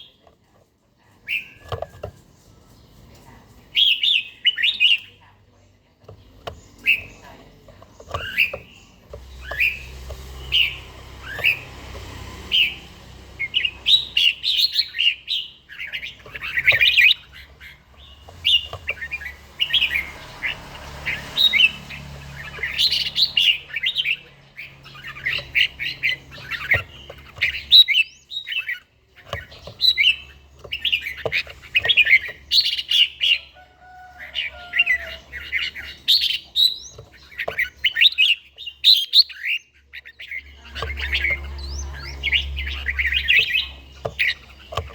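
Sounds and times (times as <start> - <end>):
bird singing warbled phrases: 0.0 - 44.9.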